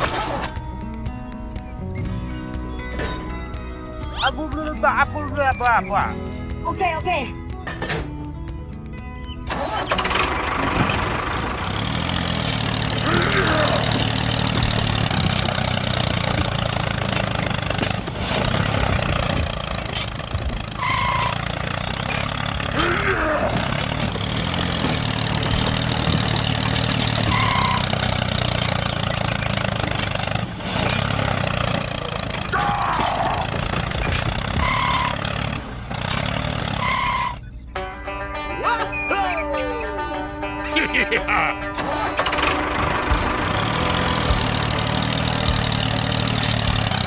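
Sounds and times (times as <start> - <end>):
vehicle engine running: 0.0 - 38.6, 39.6 - 47.0.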